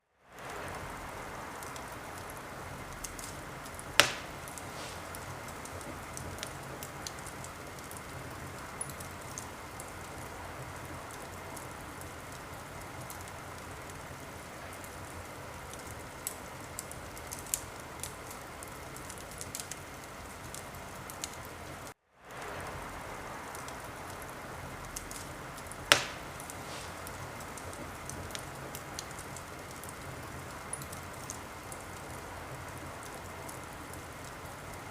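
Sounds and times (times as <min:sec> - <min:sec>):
wood fire hissing and crackling: 0:00.0 - 0:34.9
loud fire pops: 0:00.4 - 0:21.4, 0:22.3 - 0:34.9.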